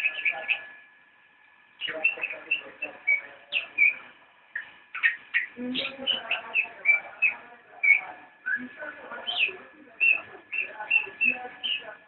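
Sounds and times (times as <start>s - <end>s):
songbirds chirping and whistling: 0.0s - 0.9s, 1.6s - 12.0s.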